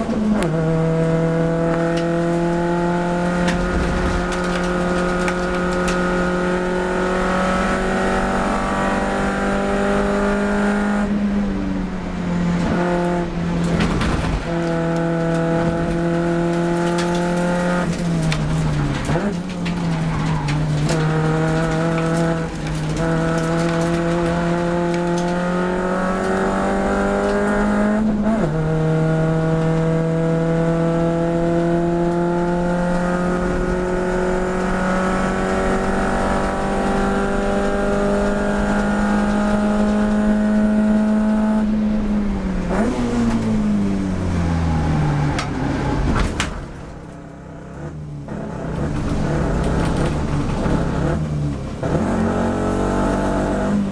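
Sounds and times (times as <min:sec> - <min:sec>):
car engine at full throttle: 0:00.0 - 0:53.9.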